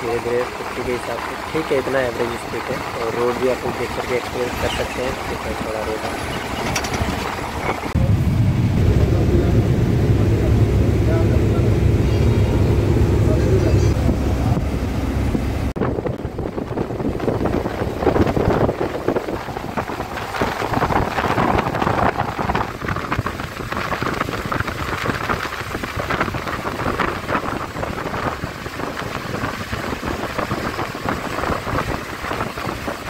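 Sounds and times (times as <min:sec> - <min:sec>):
road and wind noise: 0:00.0 - 0:33.0
wind buffeting microphone: 0:00.0 - 0:33.0.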